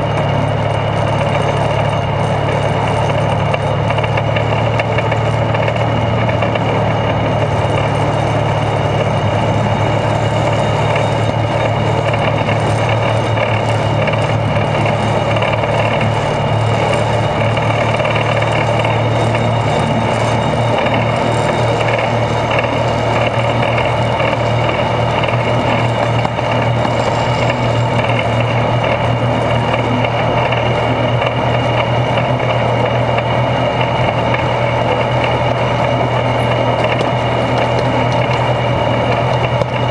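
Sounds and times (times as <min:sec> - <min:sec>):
high whine: 0:00.0 - 0:39.9
locomotive engine drone: 0:00.0 - 0:39.9
wheels on rails: 0:00.0 - 0:39.9.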